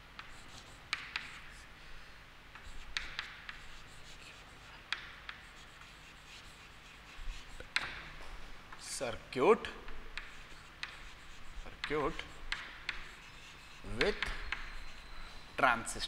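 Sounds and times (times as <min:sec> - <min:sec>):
chalk tapping and scratching: 0:00.0 - 0:01.7, 0:02.5 - 0:16.0.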